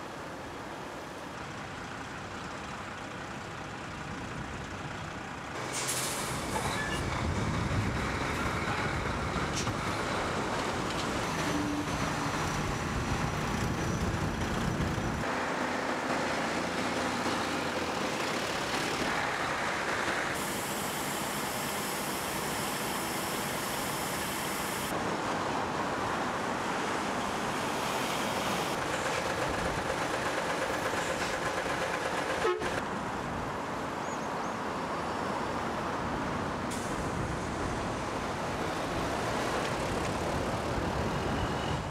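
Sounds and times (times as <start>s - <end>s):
road traffic rush: 0.0s - 41.9s.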